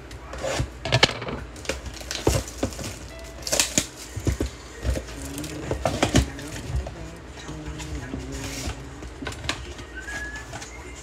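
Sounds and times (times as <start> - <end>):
scissors cutting plastic wrap: 1.6 - 10.7
plastic wrap crinkling: 1.6 - 11.0.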